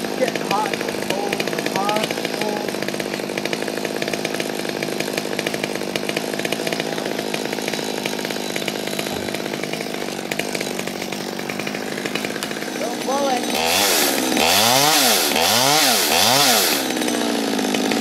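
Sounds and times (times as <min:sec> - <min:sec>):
chainsaw running: 0:00.0 - 0:18.0.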